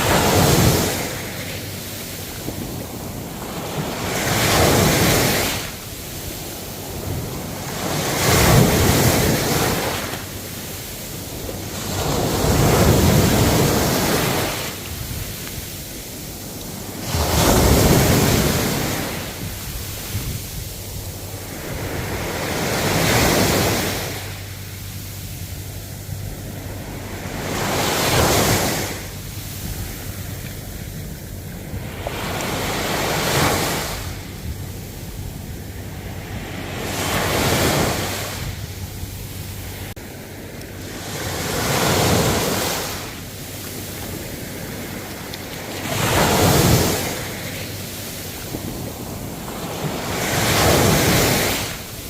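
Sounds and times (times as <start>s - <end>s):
hiss of surf: 0.0s - 52.0s
ocean waves surging: 0.0s - 52.0s.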